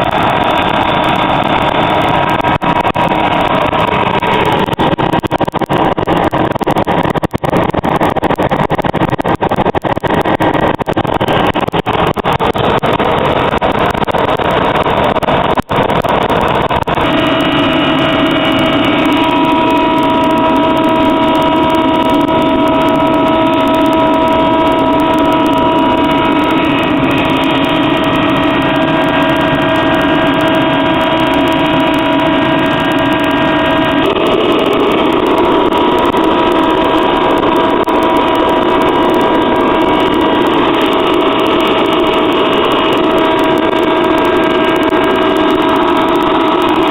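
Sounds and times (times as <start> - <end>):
furnace burner roaring: 0.0 - 46.9
steady whining tones: 0.0 - 46.9.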